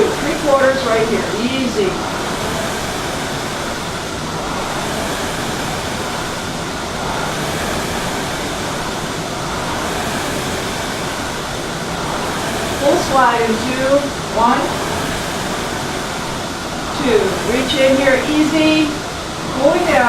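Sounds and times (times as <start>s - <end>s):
rowing machine fan whooshing: 0.0s - 20.0s.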